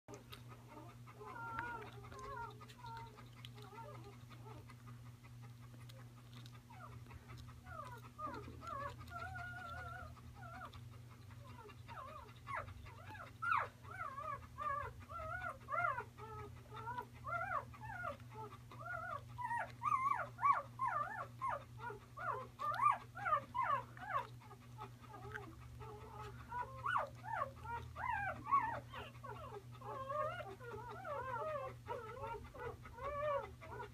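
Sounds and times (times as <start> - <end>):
puppy whimpering and squeaking: 0.1 - 4.8, 5.5 - 33.9.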